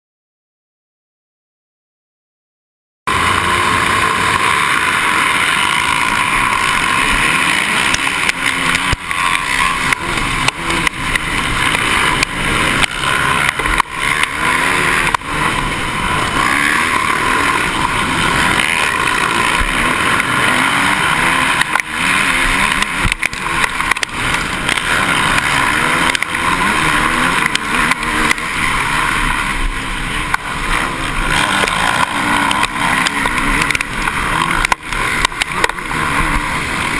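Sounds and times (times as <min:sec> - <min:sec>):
motocross bikes revving: 0:03.1 - 0:36.9.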